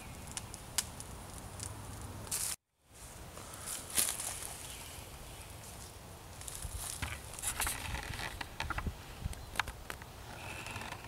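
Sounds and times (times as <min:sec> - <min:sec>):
rustling in dry leaves: 0:00.0 - 0:09.5.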